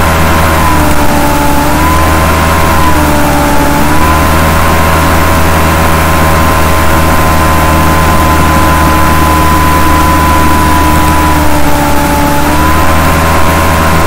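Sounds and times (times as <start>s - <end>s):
loud machine drone: 0.0s - 14.0s.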